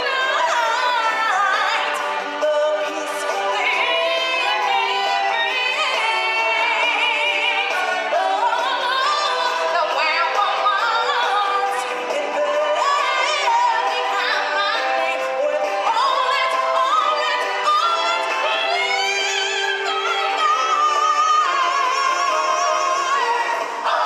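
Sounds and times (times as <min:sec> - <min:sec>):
musical accompaniment: 0:00.0 - 0:24.0
person singing with vibrato: 0:00.0 - 0:24.0.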